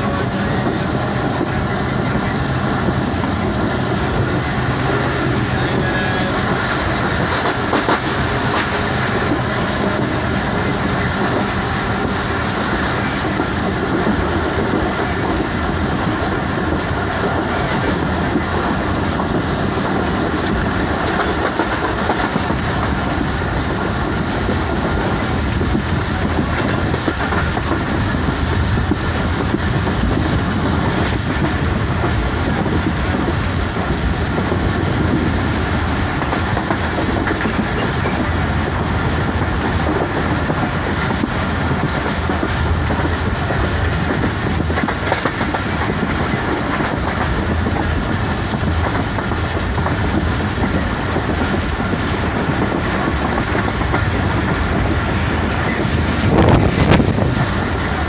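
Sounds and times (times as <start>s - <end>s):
rumble of train wheels on rails: 0.0s - 58.0s.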